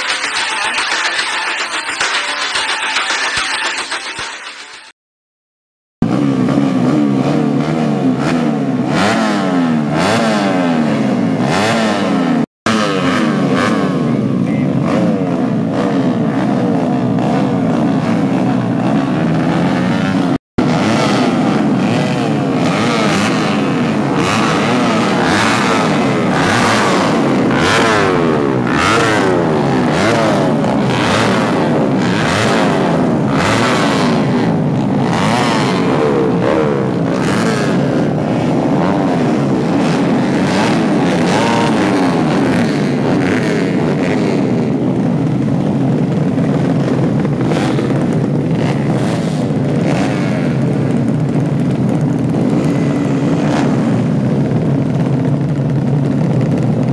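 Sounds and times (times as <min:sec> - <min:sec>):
motorcycle engines revving: 0:00.0 - 0:04.7, 0:06.0 - 0:56.9.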